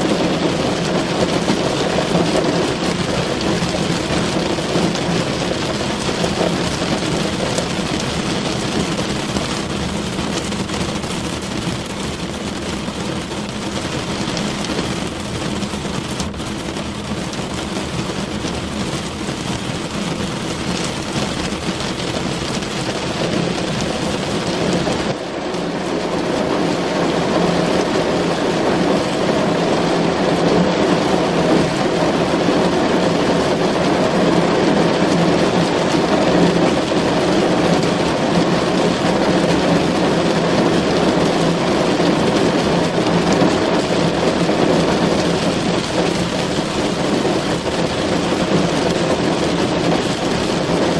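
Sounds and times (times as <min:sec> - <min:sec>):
rain drumming on car roof: 0:00.0 - 0:50.9.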